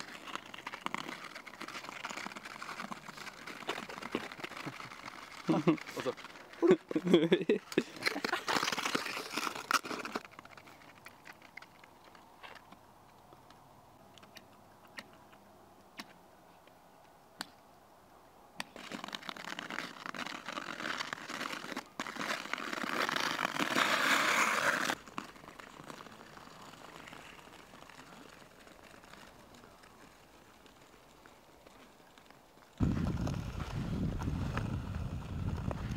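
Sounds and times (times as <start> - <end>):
ice skate blades scraping ice: 0.0 - 12.7, 18.6 - 35.9.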